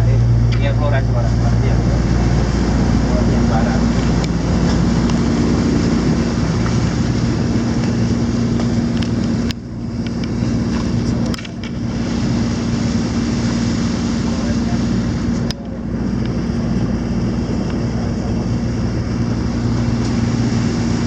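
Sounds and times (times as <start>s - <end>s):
boat engine humming: 0.0s - 21.0s
water noise: 0.0s - 21.0s
wind: 0.0s - 21.0s.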